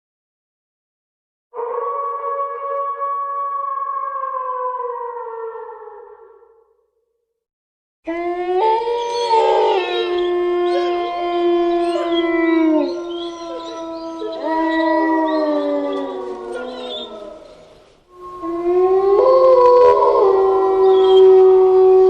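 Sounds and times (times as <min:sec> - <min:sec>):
wolves howling: 0:01.6 - 0:06.4, 0:08.1 - 0:22.0.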